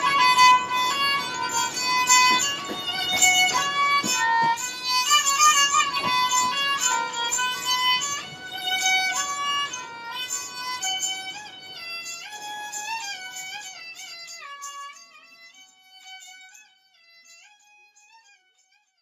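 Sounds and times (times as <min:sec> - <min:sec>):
bowed string melody: 0:00.0 - 0:18.4.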